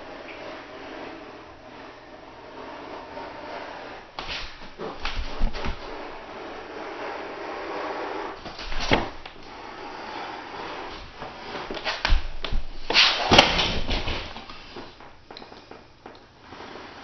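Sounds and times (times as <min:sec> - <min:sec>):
vinyl flooring rustling and scraping: 0:00.0 - 0:17.0.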